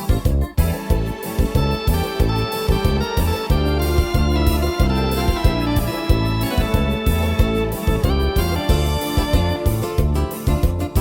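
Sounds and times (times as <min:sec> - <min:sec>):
electronic keyboard organ chords: 0:00.0 - 0:11.0
repeating bass line: 0:00.1 - 0:11.0.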